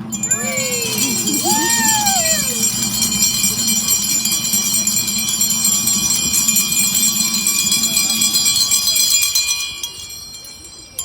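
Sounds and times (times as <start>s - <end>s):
hand bells ringing: 0.0s - 11.0s.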